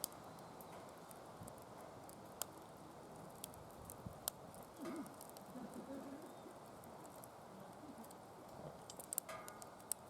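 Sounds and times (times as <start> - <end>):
wood fire rushing and crackling: 0.0 - 10.0.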